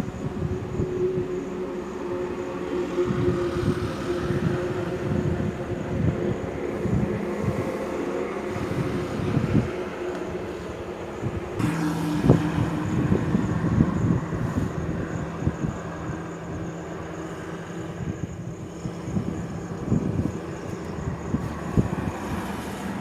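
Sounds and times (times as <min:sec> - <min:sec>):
road noise: 0:00.0 - 0:23.0
truck engines droning: 0:00.0 - 0:23.0.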